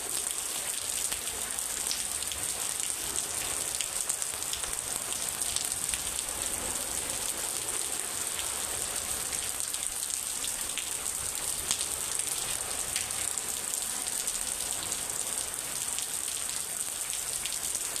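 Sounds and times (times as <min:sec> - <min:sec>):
steady rain pattering: 0:00.0 - 0:18.0.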